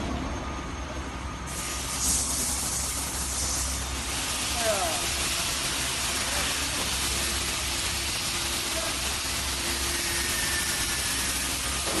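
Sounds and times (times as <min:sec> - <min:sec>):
machinery hissing: 0:01.5 - 0:12.0.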